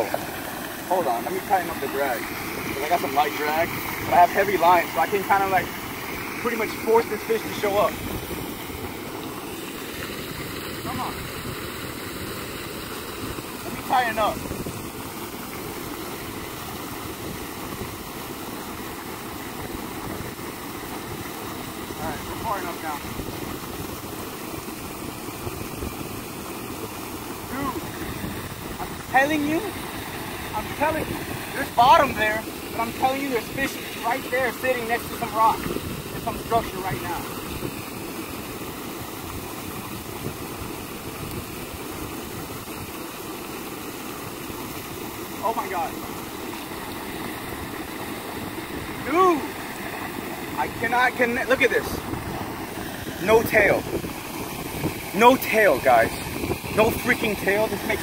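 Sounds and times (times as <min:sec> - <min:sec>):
water pouring from pipe: 0:00.0 - 0:58.0.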